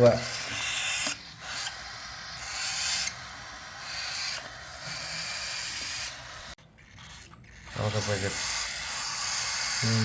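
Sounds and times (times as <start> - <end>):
bird chicks hissing: 0.0 - 10.0.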